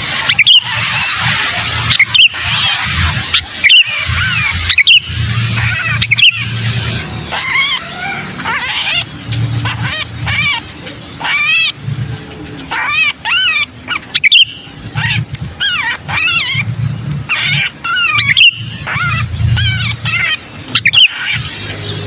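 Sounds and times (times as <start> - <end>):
bird harsh scolding calls: 0.0 - 22.0.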